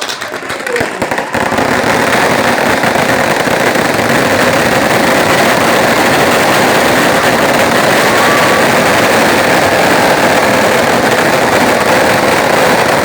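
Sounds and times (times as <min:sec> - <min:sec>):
bonfire flames roaring: 0:00.2 - 0:13.0.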